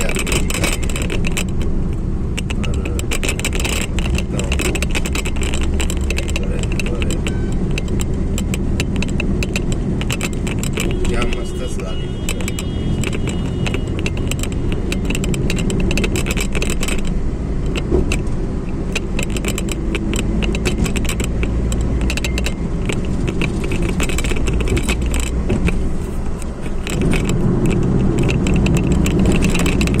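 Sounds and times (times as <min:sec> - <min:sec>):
car engine and tyre noise: 0:00.0 - 0:30.0
light rattles and clicks: 0:00.0 - 0:30.0.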